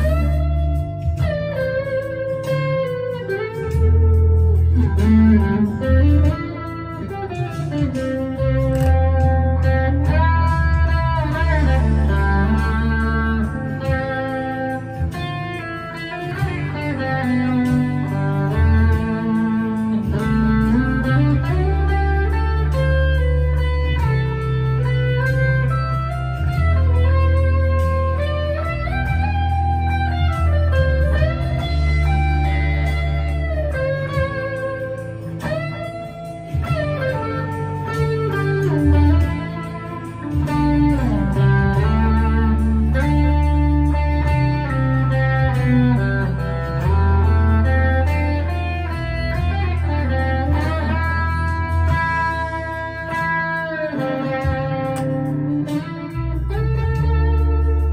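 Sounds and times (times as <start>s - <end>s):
overdriven electric guitar lead: 0.0s - 57.9s.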